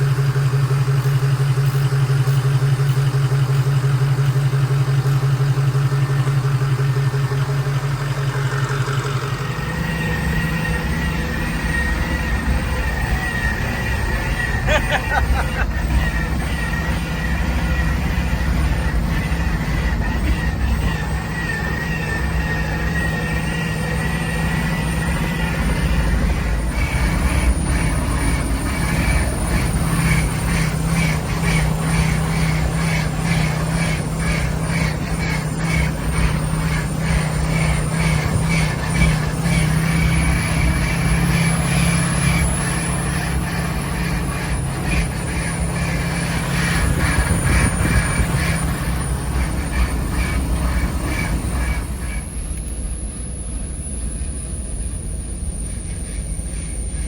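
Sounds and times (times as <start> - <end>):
truck engine and tires droning: 0.0 - 57.0.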